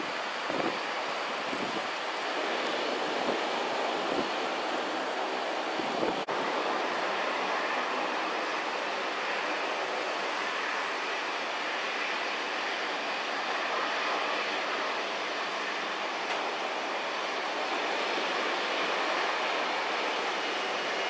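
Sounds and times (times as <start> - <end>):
jet engines at taxi power: 0.0 - 21.0.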